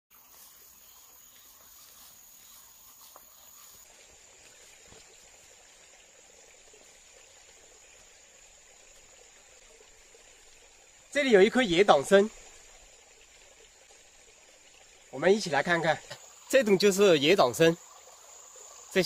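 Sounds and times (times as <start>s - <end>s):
high-pitched insect tone: 0.1s - 19.0s.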